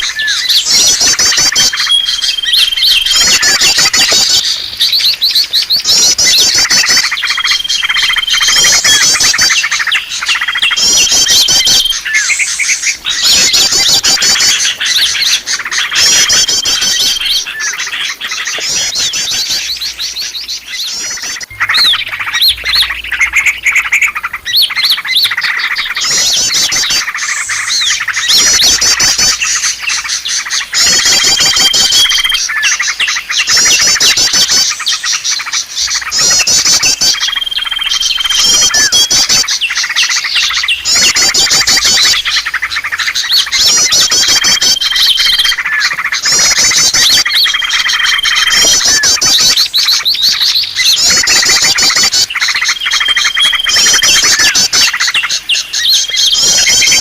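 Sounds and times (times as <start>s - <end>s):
songbirds twittering: 0.0s - 57.0s.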